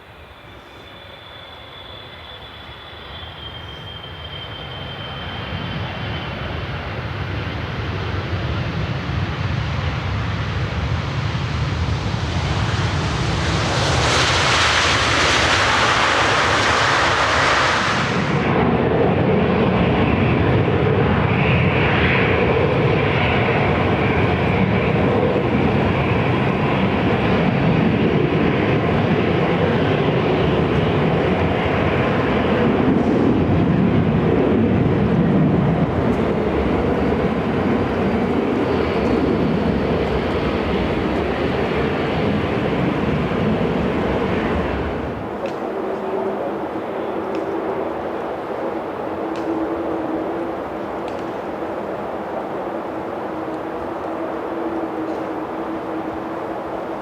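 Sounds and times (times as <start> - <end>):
jet engines passing: 0.0 - 57.0.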